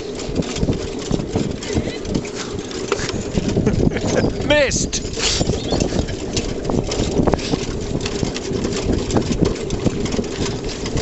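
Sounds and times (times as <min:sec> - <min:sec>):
chariot wheels rumbling and rattling: 0:00.0 - 0:11.0.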